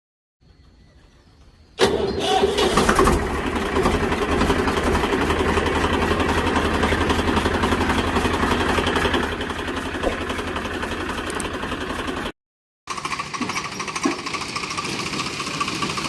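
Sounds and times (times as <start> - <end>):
tractor engine running: 1.4 - 16.0.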